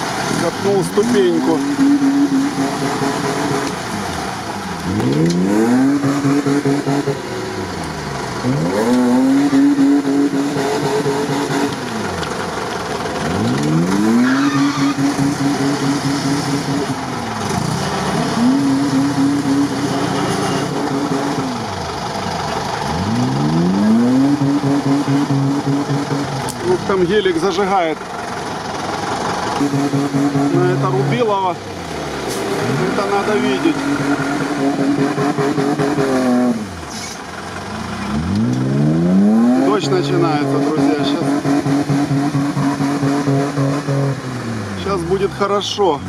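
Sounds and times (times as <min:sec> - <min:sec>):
car engine revving hard: 0:00.0 - 0:46.0.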